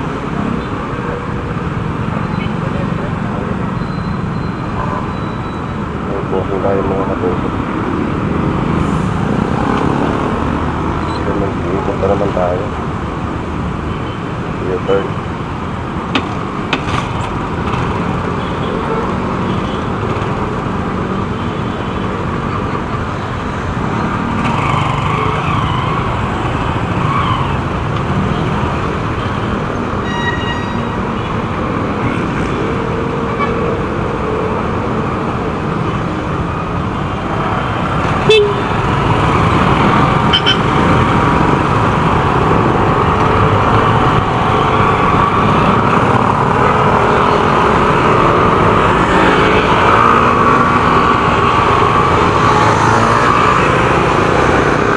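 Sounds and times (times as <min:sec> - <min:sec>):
road and traffic noise: 0:00.0 - 0:54.9.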